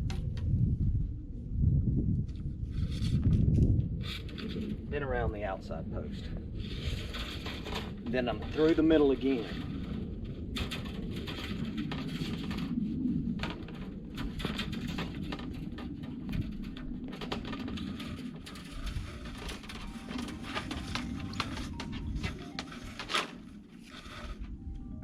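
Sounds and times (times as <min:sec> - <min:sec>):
wire clicking and scraping on posts: 0:02.4 - 0:05.5, 0:06.6 - 0:25.0.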